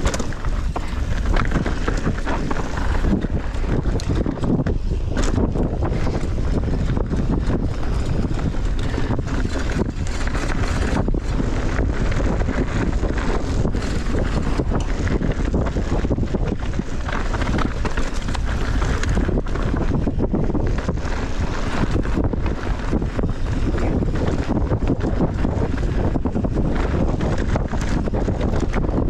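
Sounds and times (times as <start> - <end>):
bike knocks and rattles: 0.0 - 29.0
bike tyres rumbling on trail: 0.0 - 29.0
wind rushing over microphone: 0.0 - 29.0.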